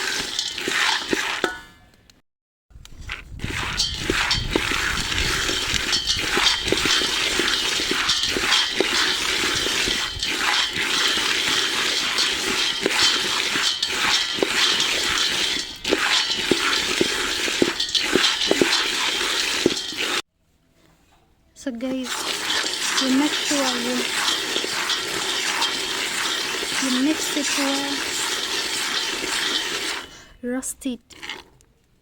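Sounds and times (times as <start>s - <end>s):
peanuts rattling in a saucepan: 0.0s - 1.6s, 3.0s - 20.2s, 21.9s - 31.5s.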